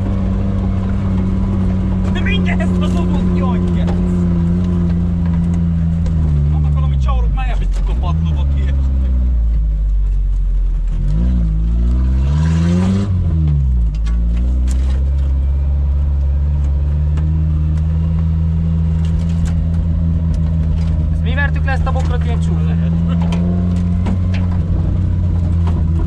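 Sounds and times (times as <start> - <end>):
engine revving: 0.0 - 9.9, 10.7 - 26.0.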